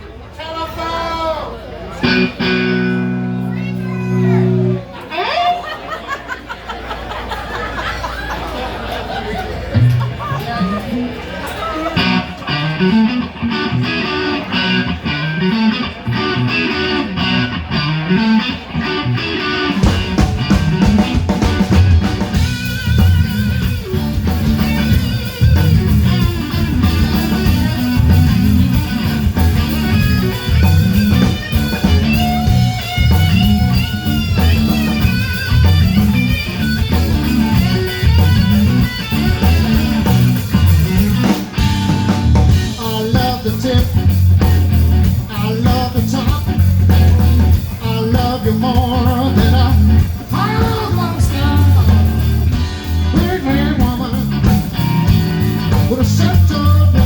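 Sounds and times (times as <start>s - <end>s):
bass guitar: 1.7s - 5.2s, 9.5s - 57.0s
electric guitar blues: 1.8s - 5.5s, 9.7s - 57.0s
drums: 1.9s - 57.0s.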